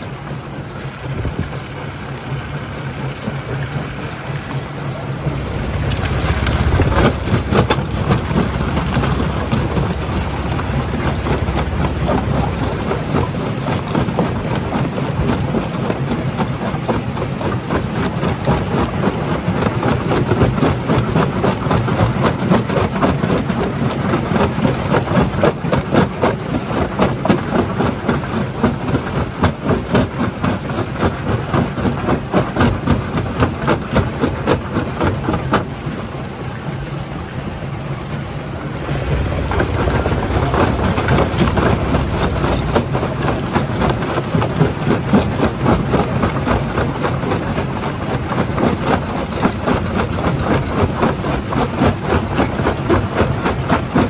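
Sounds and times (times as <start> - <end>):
heavy machine rumble: 0.0 - 54.0.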